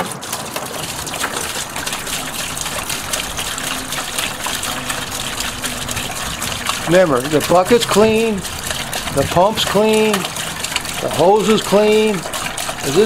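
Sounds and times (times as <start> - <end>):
liquid gushing into plastic pail: 0.0 - 13.0.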